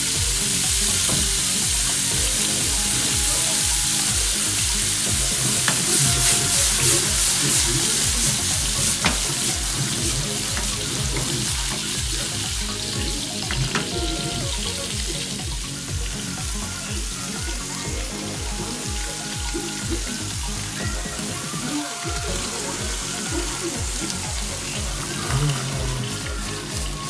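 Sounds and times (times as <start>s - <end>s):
background music with beat: 0.0s - 27.0s
vegetables sizzling in oil: 0.0s - 27.0s.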